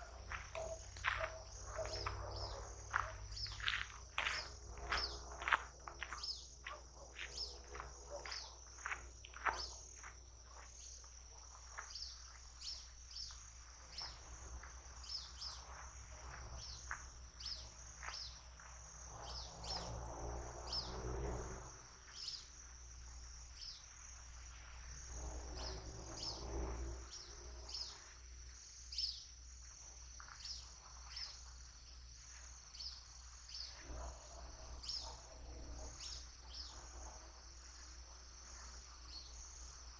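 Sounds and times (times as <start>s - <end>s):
small birds chirping: 0.0s - 19.9s, 22.1s - 22.6s, 25.5s - 39.8s
high-pitched insect trill: 0.0s - 39.9s.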